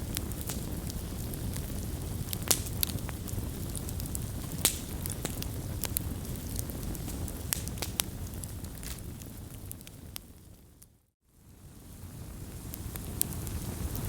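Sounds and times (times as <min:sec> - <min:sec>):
campfire pops and snaps: 0:00.0 - 0:10.3, 0:12.5 - 0:14.0
low rumble of burning: 0:00.0 - 0:14.0.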